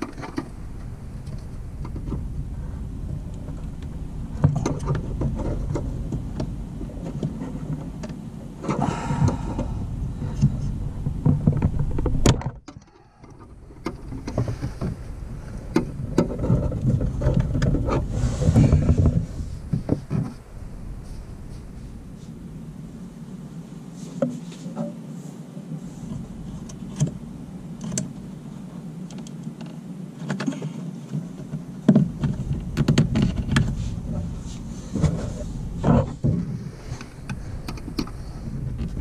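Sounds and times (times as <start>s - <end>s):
rustling: 0.0s - 12.3s, 12.9s - 39.0s.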